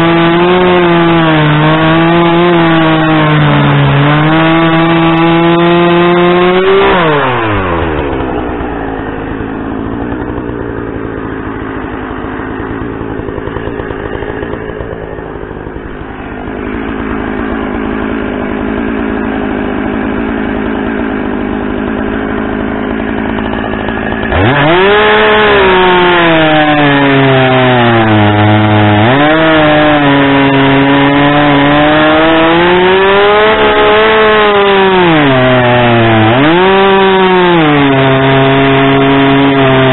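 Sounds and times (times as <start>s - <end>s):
chainsaw cutting into log: 0.0s - 39.9s
chainsaw revving and idling: 0.0s - 39.9s.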